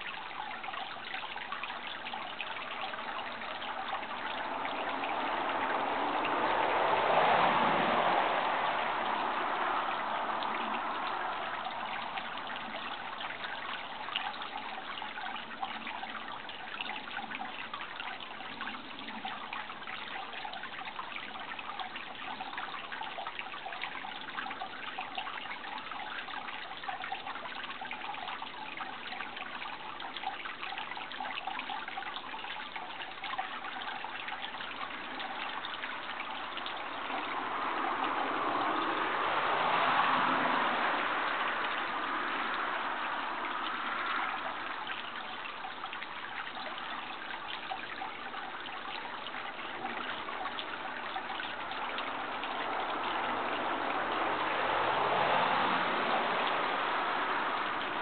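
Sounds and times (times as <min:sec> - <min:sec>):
water rushing: 0:00.0 - 0:58.0
water trickling: 0:00.0 - 0:58.0.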